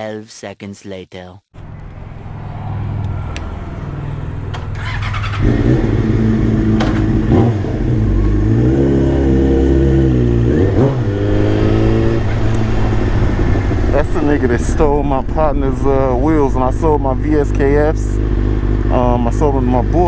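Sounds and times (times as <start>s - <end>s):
vehicle engine revving: 1.6s - 20.0s.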